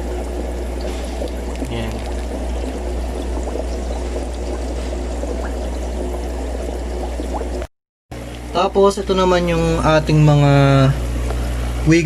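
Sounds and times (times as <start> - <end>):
constant low hum: 0.0 - 12.0
sponge filter bubbling: 0.0 - 12.0.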